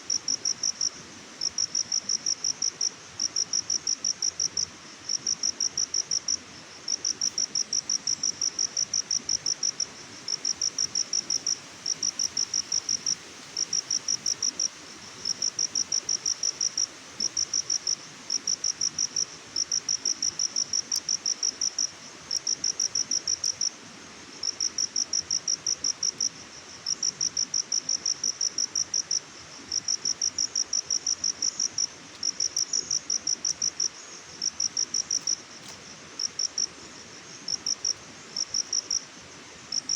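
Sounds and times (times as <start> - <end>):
faint background hiss: 0.0 - 39.9
insect chirping: 0.0 - 39.9.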